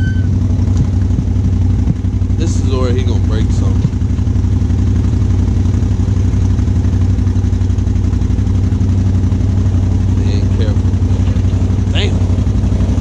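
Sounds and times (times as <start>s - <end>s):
atv engines idling: 0.0s - 13.0s.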